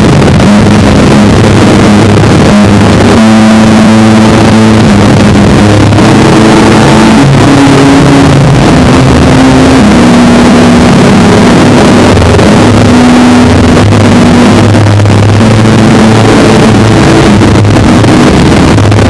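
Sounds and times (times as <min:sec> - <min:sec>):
harsh noise wall: 0:00.0 - 0:19.0
low droning tones: 0:00.0 - 0:19.0.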